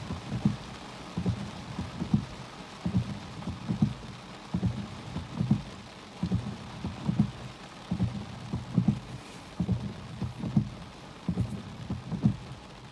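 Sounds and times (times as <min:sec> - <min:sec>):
low irregular thumps: 0:00.0 - 0:12.8
rain hissing: 0:00.0 - 0:12.9.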